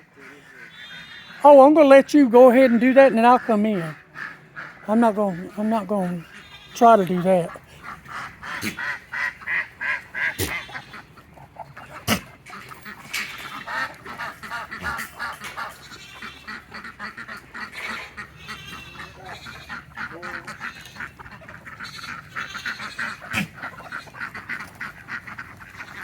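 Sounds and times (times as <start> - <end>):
poultry flock calling: 0.0 - 26.0.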